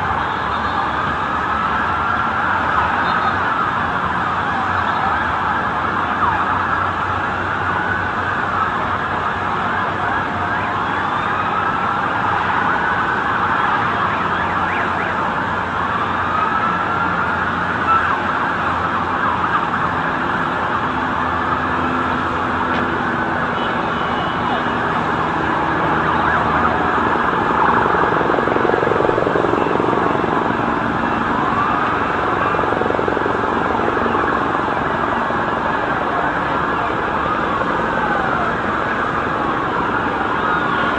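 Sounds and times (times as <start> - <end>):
emergency sirens wailing: 0.0 - 40.9
street noise: 0.0 - 40.9.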